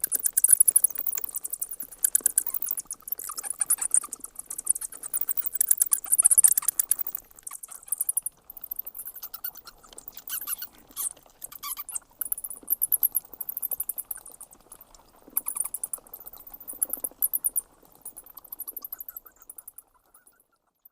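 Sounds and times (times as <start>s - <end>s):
bats squeaking and chittering: 0.0s - 20.7s.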